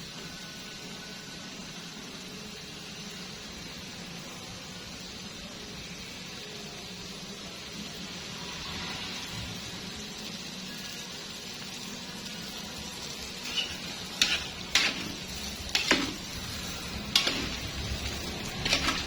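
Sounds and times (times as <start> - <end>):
hot oil sizzling: 0.0 - 19.0.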